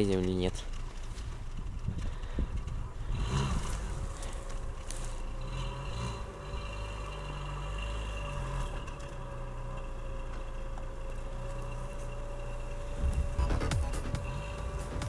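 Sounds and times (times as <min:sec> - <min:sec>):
car engine running under load: 0:00.0 - 0:15.0.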